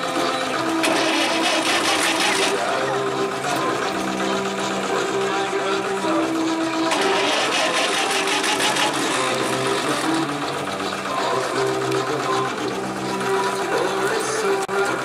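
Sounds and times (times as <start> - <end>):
music playing: 0.0 - 15.0
tractor engine idling: 0.0 - 15.0.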